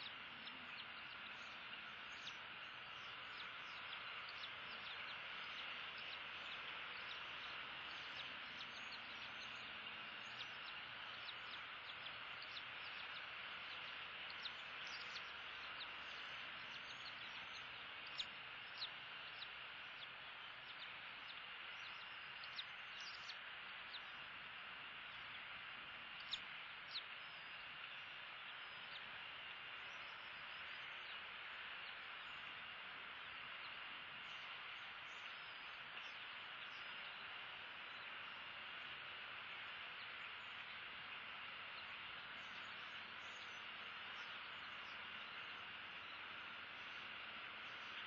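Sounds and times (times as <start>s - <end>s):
even outdoor hiss: 0.0s - 48.0s.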